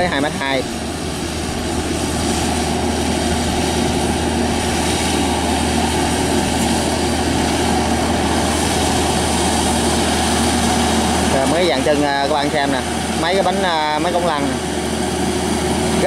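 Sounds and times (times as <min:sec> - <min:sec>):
tiller engine running: 0:00.0 - 0:16.0.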